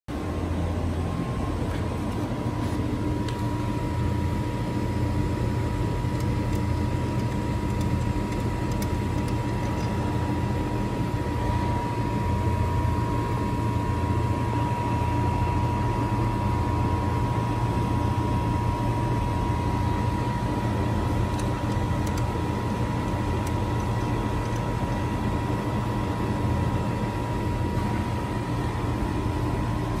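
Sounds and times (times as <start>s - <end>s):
chiller compressor humming: 0.1s - 30.0s.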